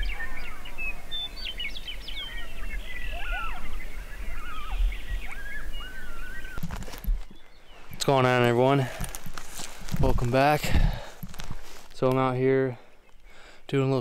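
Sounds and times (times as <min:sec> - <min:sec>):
birds chirping and whistling: 0:00.0 - 0:11.8, 0:12.4 - 0:14.0.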